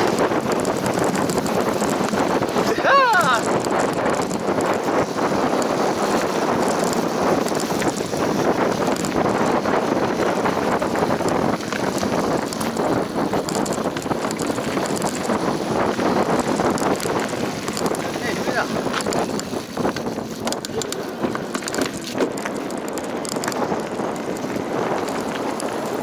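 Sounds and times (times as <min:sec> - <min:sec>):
bicycle rattling over rough ground: 0:00.0 - 0:26.0
wind buffeting microphone: 0:00.0 - 0:26.0.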